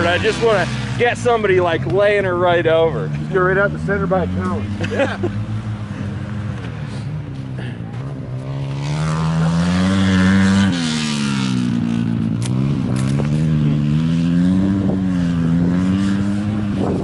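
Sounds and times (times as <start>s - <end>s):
motorcycle engine racing: 0.0s - 17.0s.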